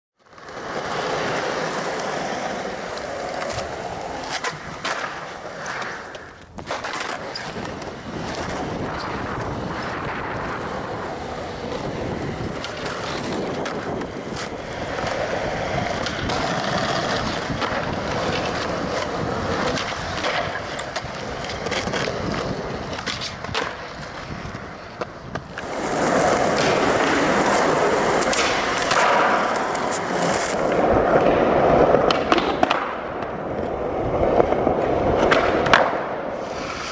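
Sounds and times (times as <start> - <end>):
skateboard clacks: 0.2 - 36.9
skateboard wheels rolling on concrete: 0.2 - 36.9.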